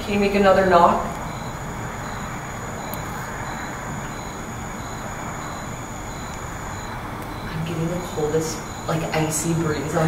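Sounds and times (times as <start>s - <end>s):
crickets chirping: 0.2s - 10.0s.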